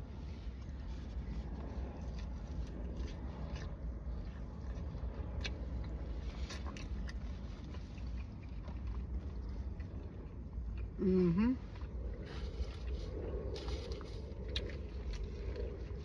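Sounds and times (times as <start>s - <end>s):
low rumble: 0.0s - 16.0s
person chewing: 0.1s - 11.0s, 11.6s - 16.0s.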